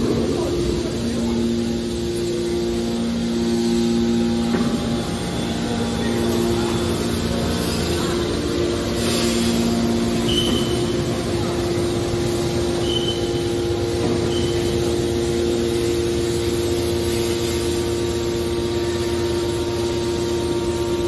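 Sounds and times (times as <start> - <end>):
hydraulic machine hum: 0.0 - 21.0
pitched pump whine: 0.0 - 21.0.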